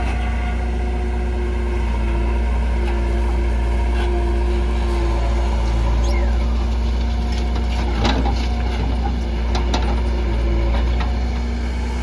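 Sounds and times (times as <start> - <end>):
backhoe diesel engine running: 0.0 - 12.0.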